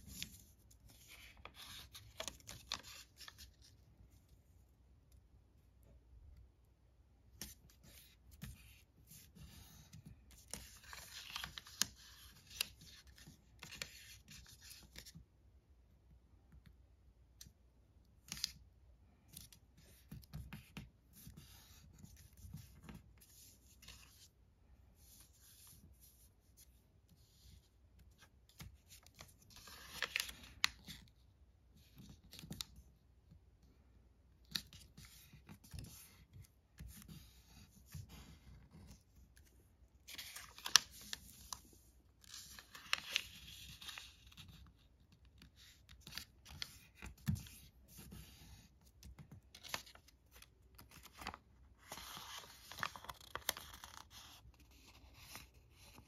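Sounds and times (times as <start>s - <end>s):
paper being folded and creased: 0.0s - 3.8s, 7.4s - 15.2s, 18.2s - 18.6s, 19.3s - 24.4s, 25.0s - 32.9s, 34.4s - 56.0s.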